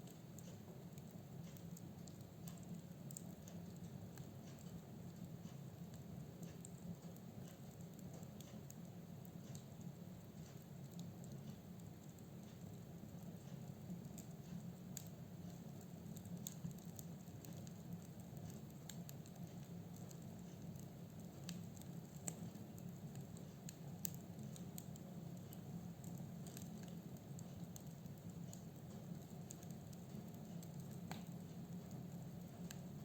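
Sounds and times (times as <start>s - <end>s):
low rumble of flames: 0.0s - 33.0s
wood crackling and popping: 0.0s - 33.0s.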